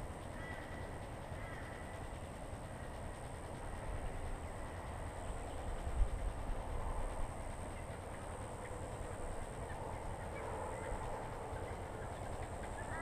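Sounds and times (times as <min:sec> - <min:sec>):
background hiss and rumble: 0:00.0 - 0:13.0
faint bird calls: 0:00.1 - 0:05.9, 0:07.0 - 0:13.0.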